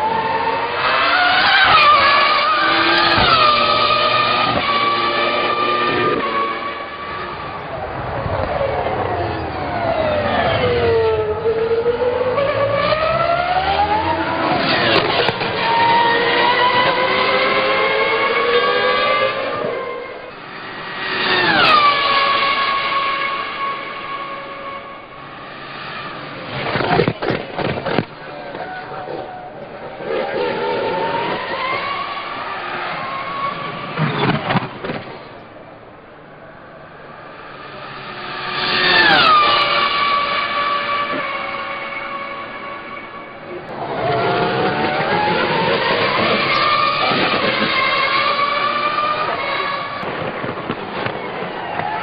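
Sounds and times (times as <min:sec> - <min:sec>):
racing car engine at full throttle: 0:00.0 - 0:52.0.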